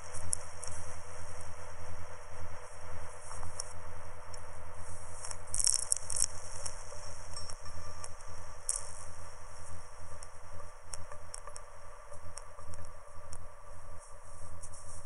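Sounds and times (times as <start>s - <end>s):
low held music tones: 0.0s - 15.0s.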